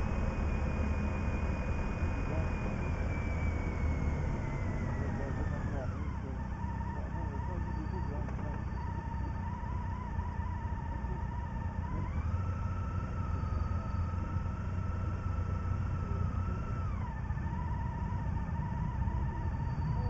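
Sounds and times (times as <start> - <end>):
motorcycle engine and wind rumble: 0.0 - 20.0
thin engine whine: 0.0 - 20.0.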